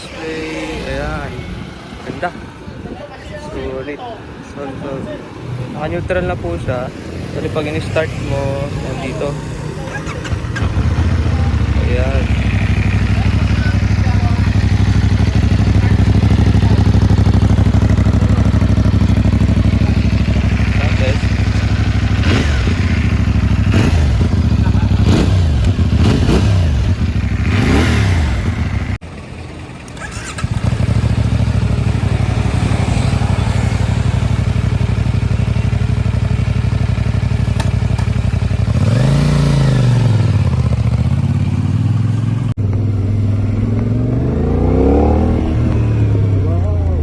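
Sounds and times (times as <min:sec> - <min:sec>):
motorcycle engine revving: 0:06.1 - 0:47.0.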